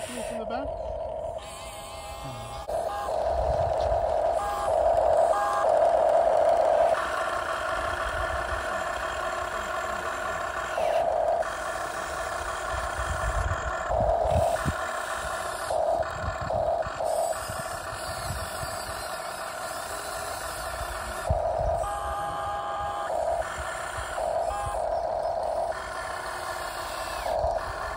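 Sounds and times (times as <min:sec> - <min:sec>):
toy electric motors whirring: 0:00.0 - 0:27.9.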